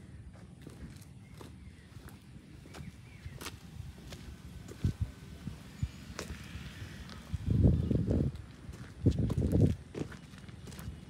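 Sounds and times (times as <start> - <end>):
footsteps on paved path: 0.0 - 11.0.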